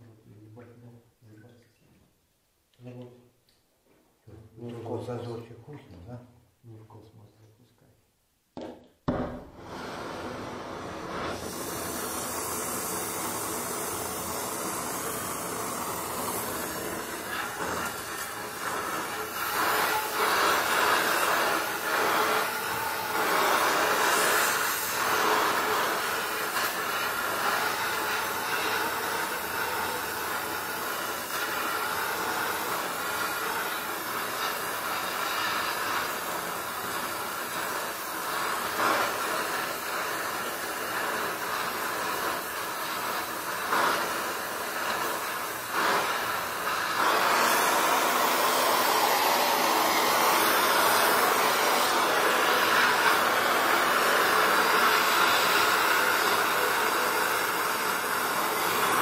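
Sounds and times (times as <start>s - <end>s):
gas torch flame hissing: 9.1s - 59.0s.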